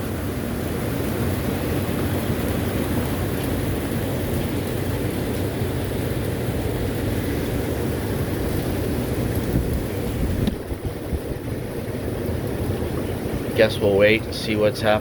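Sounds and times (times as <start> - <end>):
strong wind: 0.0 - 14.4
heavy rain: 0.0 - 15.0.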